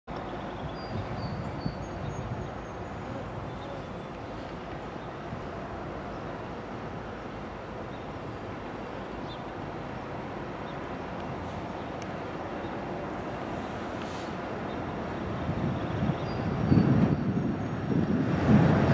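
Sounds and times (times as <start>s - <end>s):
diesel locomotive engine rumble: 0.1s - 18.9s.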